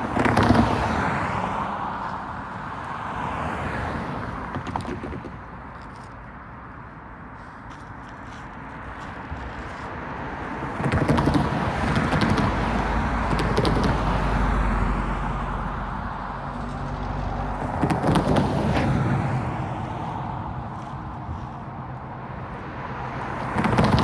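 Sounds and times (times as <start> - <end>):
vehicles passing by rumbling: 0.0 - 24.0.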